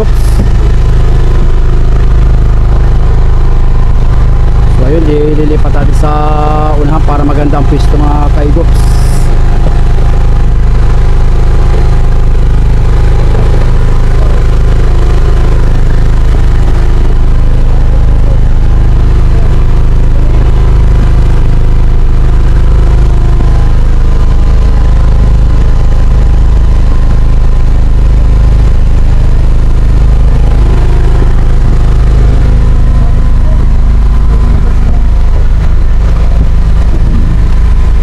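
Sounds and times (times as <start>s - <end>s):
boat engine droning: 0.0s - 38.0s.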